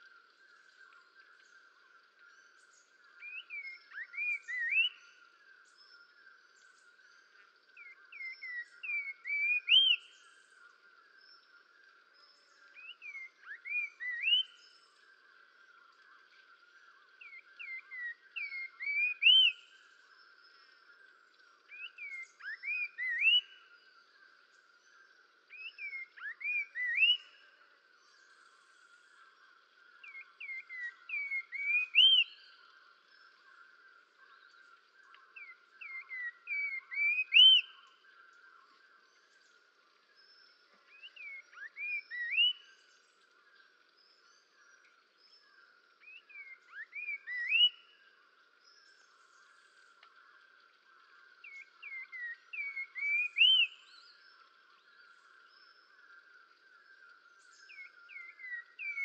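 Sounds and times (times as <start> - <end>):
songbird whistling song: 0.0 - 59.0.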